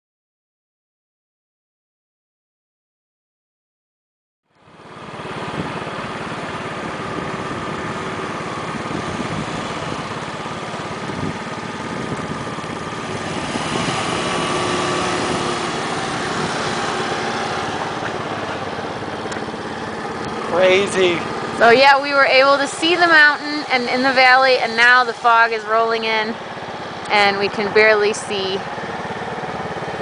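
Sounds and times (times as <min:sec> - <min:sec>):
motor scooter engine running: 0:04.6 - 0:30.0.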